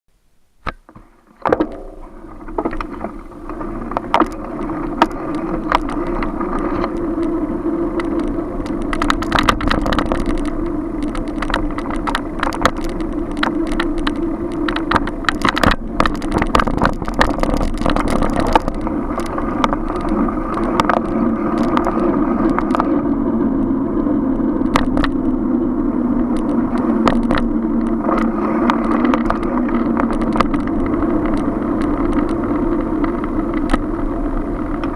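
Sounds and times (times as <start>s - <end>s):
bicycle riding hum and rumble: 0.1s - 34.9s
bicycle rattles and knocks: 0.6s - 34.9s.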